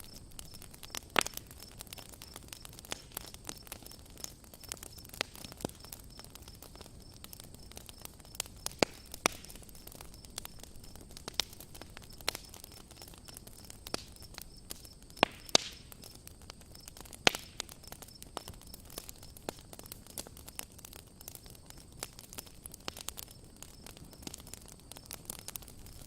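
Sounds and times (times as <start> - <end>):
campfire crackling and popping: 0.0 - 26.0
fire hiss: 0.0 - 26.0.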